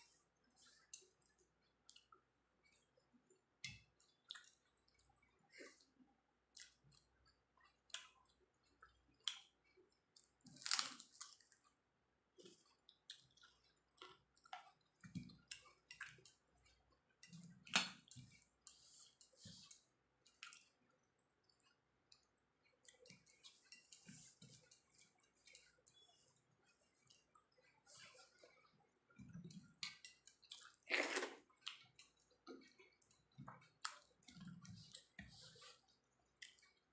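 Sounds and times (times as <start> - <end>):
person chewing food: 0.0 - 36.9.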